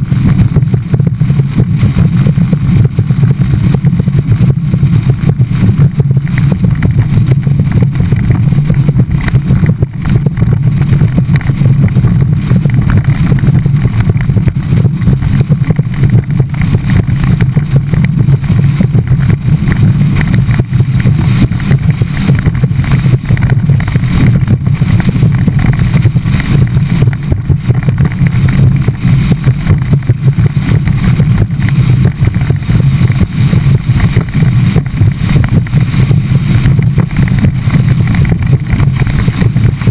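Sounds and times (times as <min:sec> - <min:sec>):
outboard engine rumble: 0:00.0 - 0:39.9
wind on microphone: 0:00.0 - 0:39.9.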